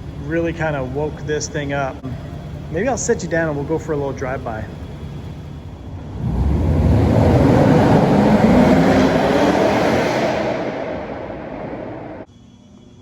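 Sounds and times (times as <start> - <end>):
car exhaust driving past: 0.0 - 12.3.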